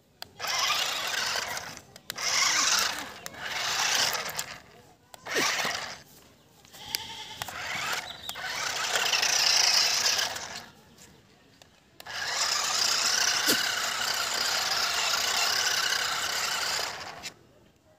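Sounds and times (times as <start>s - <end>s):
toy car electric motors whining: 0.2s - 6.0s, 6.7s - 10.8s, 12.0s - 17.4s.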